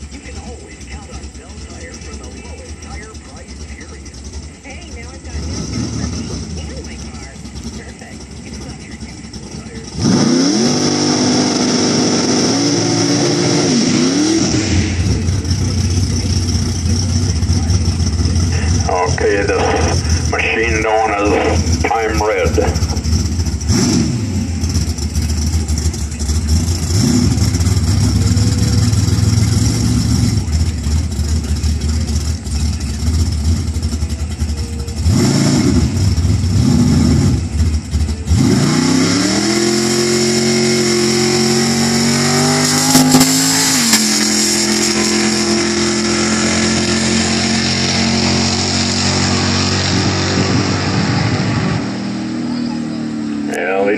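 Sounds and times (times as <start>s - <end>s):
drag car engine revving: 0.0s - 53.9s.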